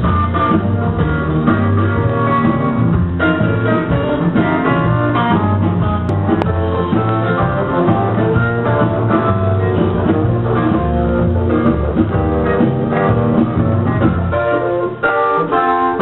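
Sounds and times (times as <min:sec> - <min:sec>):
guitar-led instrumental music: 0:00.0 - 0:16.0
steady bass line: 0:00.0 - 0:16.0.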